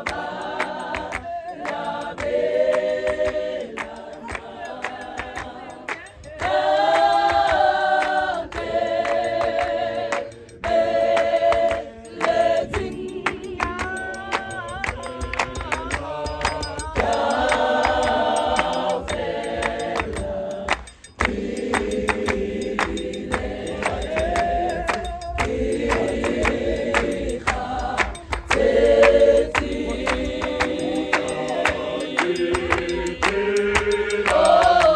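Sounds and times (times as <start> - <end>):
choir singing in harmony: 0.0 - 34.9
handclaps: 0.0 - 34.9.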